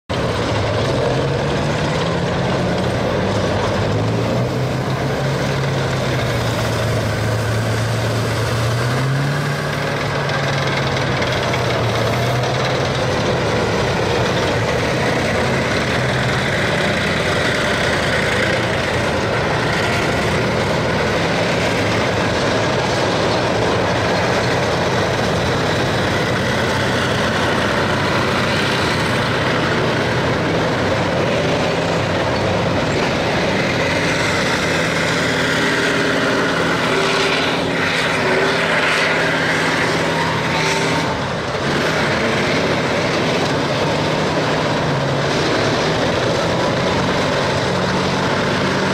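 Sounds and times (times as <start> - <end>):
steel tracks clattering: 0.1 - 48.9
tank engines running: 0.1 - 48.9.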